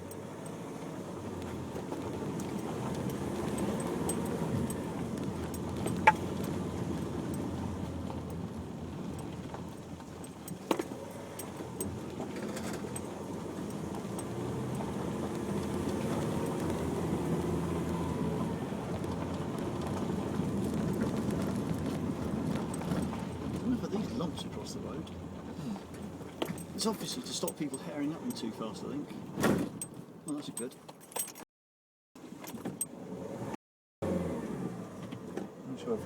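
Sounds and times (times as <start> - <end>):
engine and tyre rumble: 0.0 - 31.5, 32.2 - 36.0.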